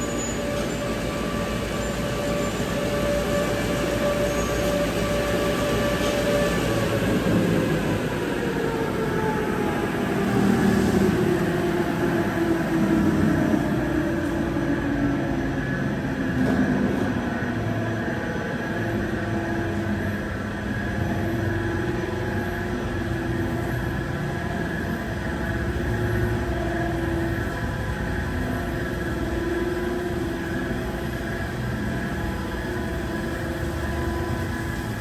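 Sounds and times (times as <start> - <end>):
car wash machinery rumbling: 0.0 - 35.0.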